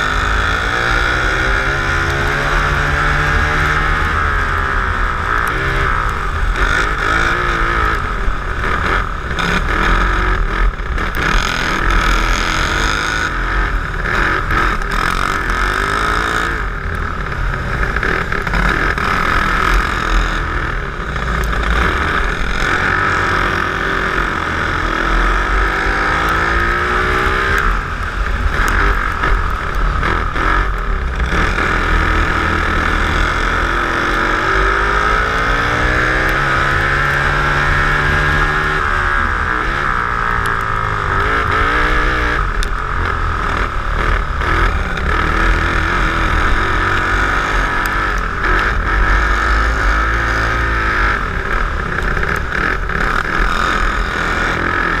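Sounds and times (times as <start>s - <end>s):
kart engine racing: 0.0s - 55.0s.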